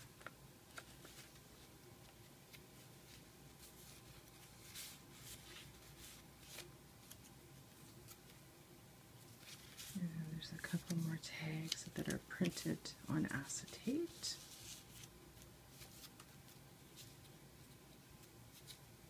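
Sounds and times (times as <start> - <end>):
paper pages rustling: 0.0 - 8.4, 9.2 - 18.9.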